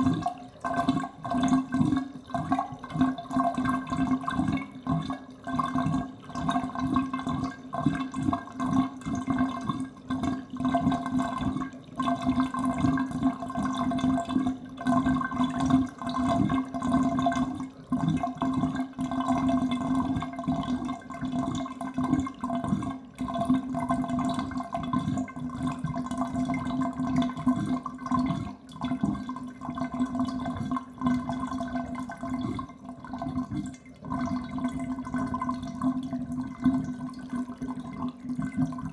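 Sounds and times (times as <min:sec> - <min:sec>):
water draining from bathtub: 0:00.0 - 0:38.9.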